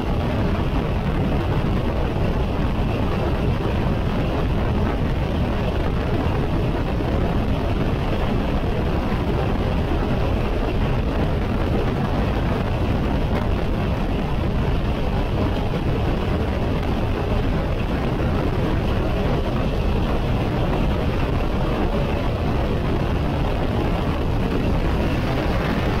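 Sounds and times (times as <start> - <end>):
motorcycle road noise: 0.0 - 26.0
wind rush on microphone: 0.0 - 26.0.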